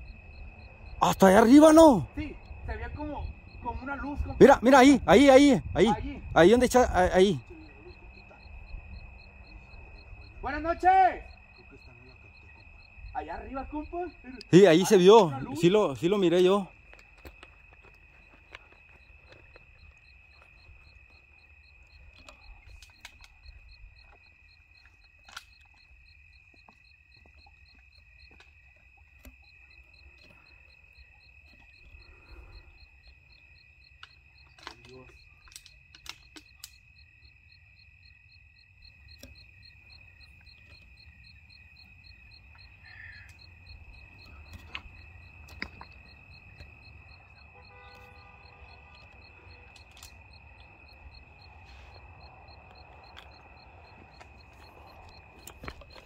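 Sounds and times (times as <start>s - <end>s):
crickets trilling: 0.0s - 56.0s
high pulsing insect call: 0.0s - 56.0s.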